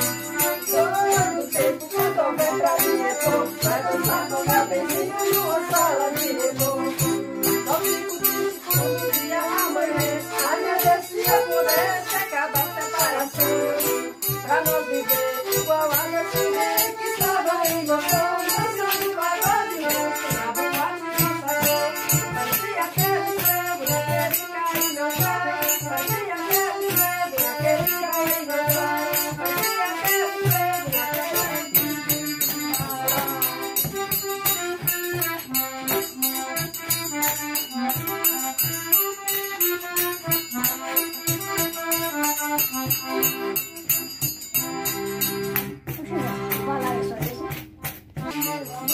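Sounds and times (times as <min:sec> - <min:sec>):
music with rattling percussion: 0:00.0 - 0:48.9.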